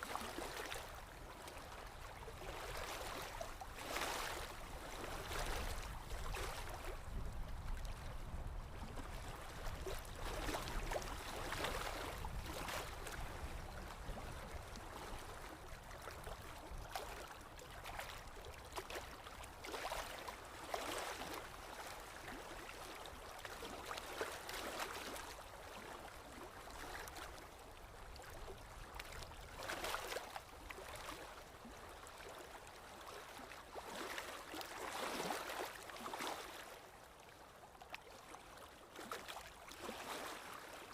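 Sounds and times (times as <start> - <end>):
water flowing and splashing: 0.0 - 40.9.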